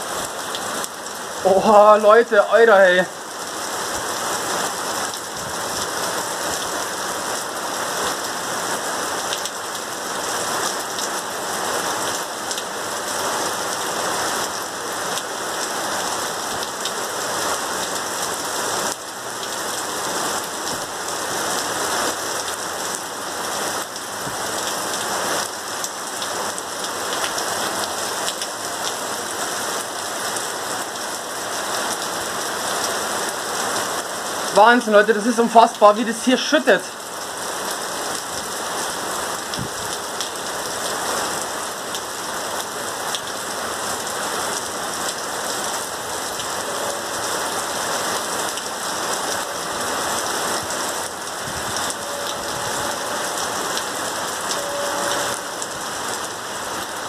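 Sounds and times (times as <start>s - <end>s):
heavy rain on pavement and roofs: 0.0s - 57.0s.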